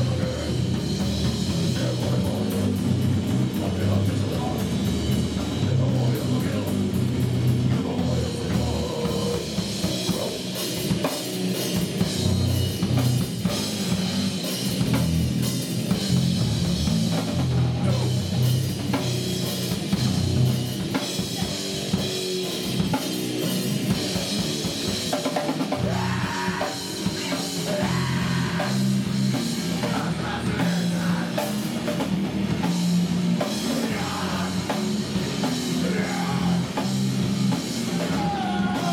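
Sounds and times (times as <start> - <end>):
grindcore band playing live: 0.0 - 38.9.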